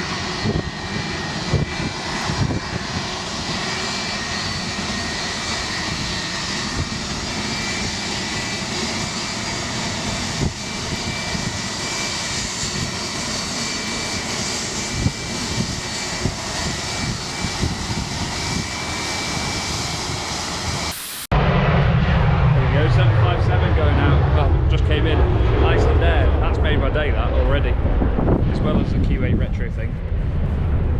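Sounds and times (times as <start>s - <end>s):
wind buffeting microphone: 0.0s - 20.9s, 21.9s - 30.9s
jet engines whining: 0.0s - 30.9s.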